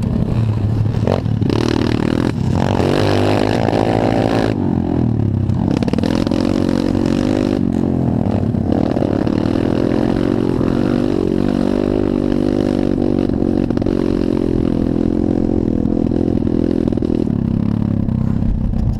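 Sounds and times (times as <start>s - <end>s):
motorbike engine running: 0.0s - 18.9s.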